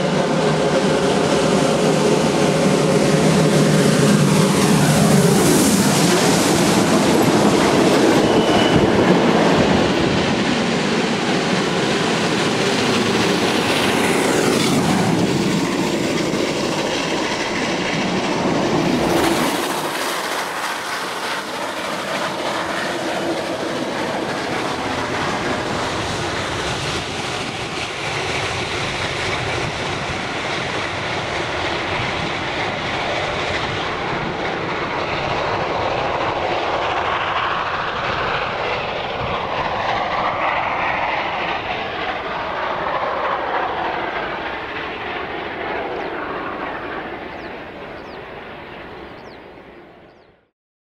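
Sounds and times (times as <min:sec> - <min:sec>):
steam train rumbling on track: 0:00.0 - 0:49.4.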